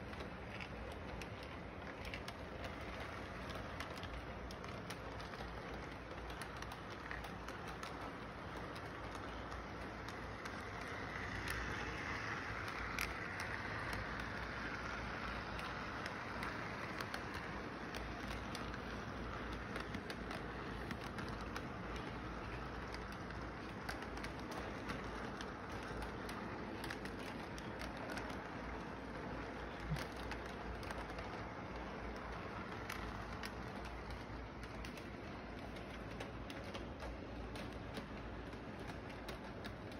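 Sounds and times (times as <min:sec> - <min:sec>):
model train rumbling on track: 0:00.0 - 0:39.9
small track clicks: 0:00.0 - 0:39.9.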